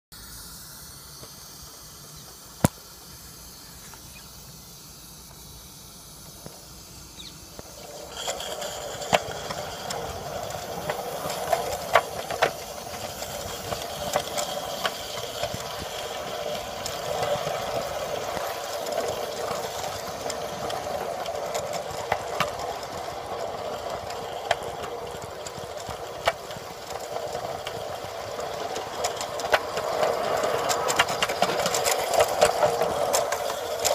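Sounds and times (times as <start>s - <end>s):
steam locomotive hissing: 0.1s - 33.9s
sharp clicks of model train: 0.2s - 33.9s.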